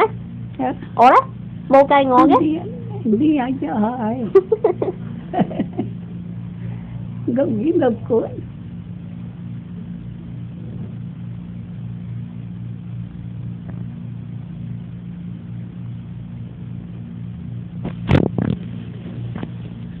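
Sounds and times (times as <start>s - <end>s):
low machine hum pulsing: 0.0s - 20.0s.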